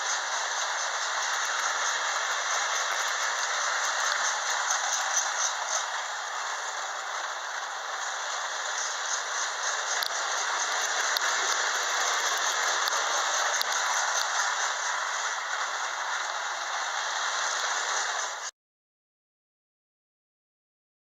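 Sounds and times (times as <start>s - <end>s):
toy train wheels rattling on rails: 0.0s - 18.5s.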